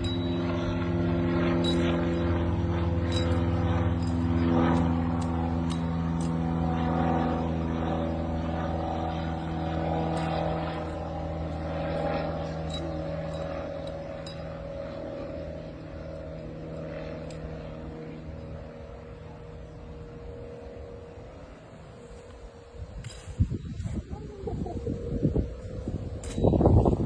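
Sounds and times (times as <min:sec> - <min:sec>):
engine drone: 0:00.0 - 0:27.0.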